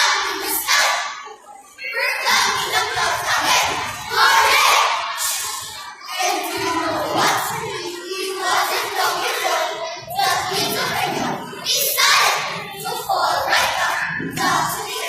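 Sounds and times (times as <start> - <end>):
children calling out and chanting: 0.0 - 15.0.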